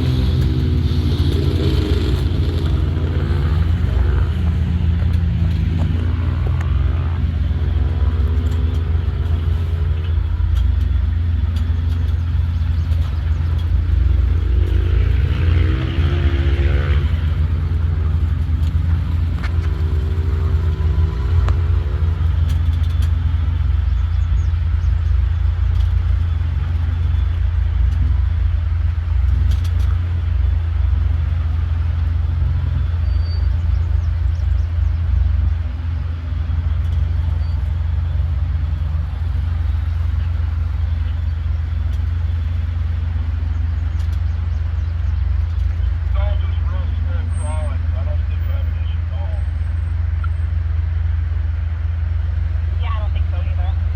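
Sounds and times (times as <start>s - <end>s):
truck engine rumbling and revving: 0.0s - 53.9s.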